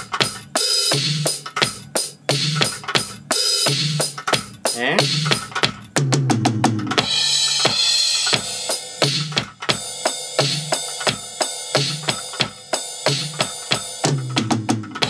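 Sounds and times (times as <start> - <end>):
drum beat of kick snare and cymbal: 0.0 - 15.0.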